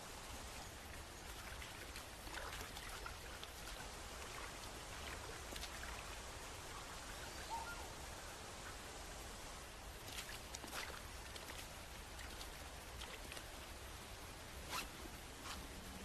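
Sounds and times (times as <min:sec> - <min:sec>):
waterfall and running water: 0:00.0 - 0:16.0.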